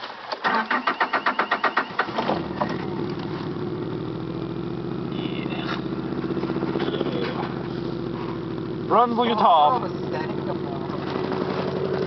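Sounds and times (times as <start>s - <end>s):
engine starter cranking: 0.4s - 3.9s, 5.4s - 12.0s
car engine idling: 0.5s - 12.0s.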